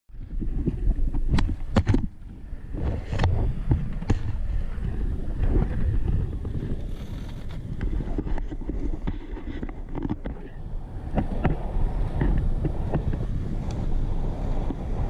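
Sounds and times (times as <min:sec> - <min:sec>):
roller-ski wheels rolling on asphalt: 0:00.1 - 0:15.0
wind buffeting microphone: 0:00.1 - 0:15.0.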